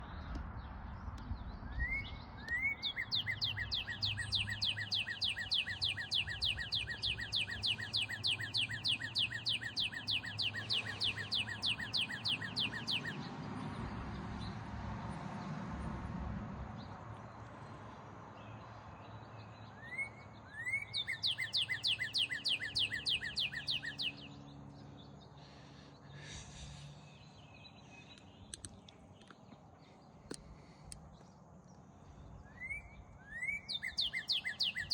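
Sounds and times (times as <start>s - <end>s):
songbird singing: 0.0s - 14.7s, 16.8s - 34.9s.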